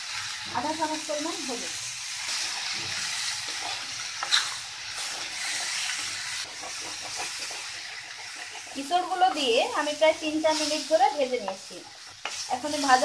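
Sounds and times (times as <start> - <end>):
food sizzling in oil: 0.0 - 13.0
wooden spatula stirring: 2.3 - 13.0.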